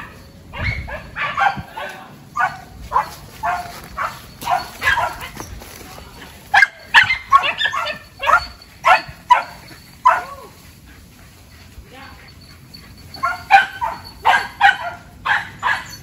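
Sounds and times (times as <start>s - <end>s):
dogs barking: 0.0s - 5.5s, 6.5s - 10.5s, 12.3s - 16.0s.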